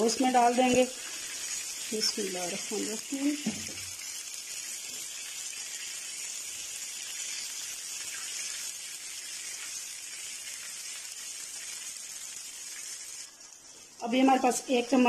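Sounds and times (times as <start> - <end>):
water and oil sizzling in pan: 0.0 - 15.0.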